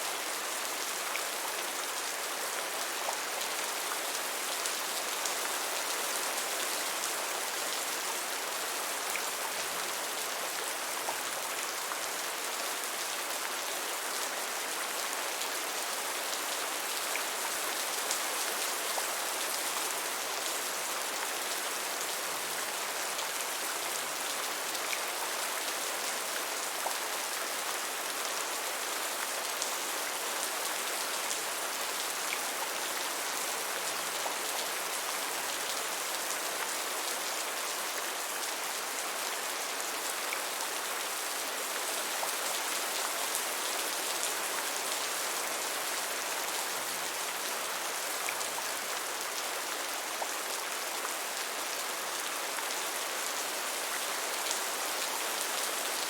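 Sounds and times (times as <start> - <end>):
gentle rain hiss: 0.0 - 56.0.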